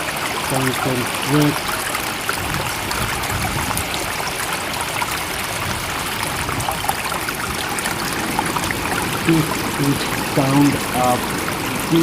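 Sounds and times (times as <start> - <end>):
water trickling and bubbling: 0.0 - 12.0.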